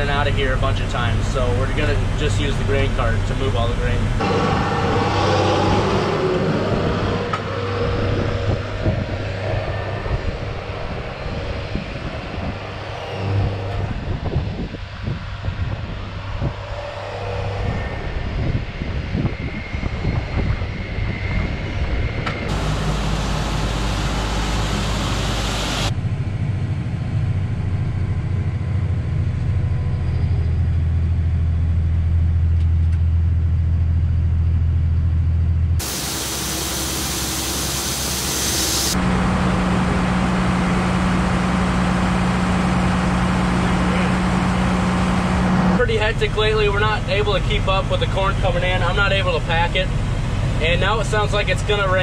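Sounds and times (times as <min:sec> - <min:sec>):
tractor engine droning: 0:00.0 - 0:18.9, 0:22.2 - 0:52.0.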